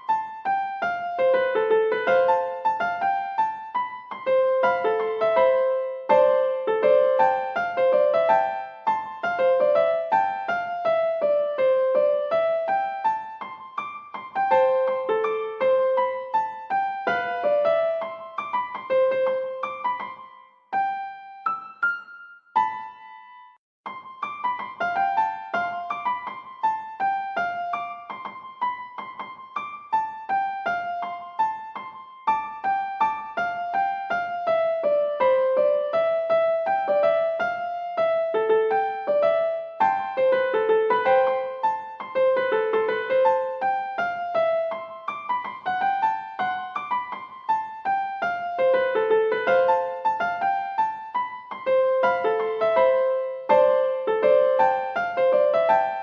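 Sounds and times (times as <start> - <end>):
light piano melody: 0.0 - 56.0.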